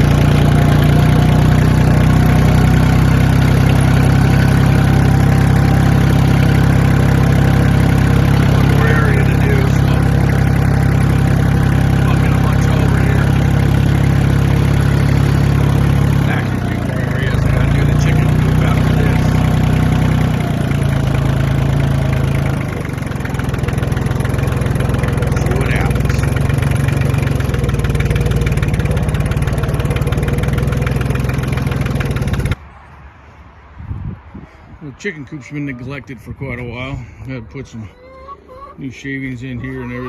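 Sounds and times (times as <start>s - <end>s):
engine running steadily: 0.0s - 32.6s.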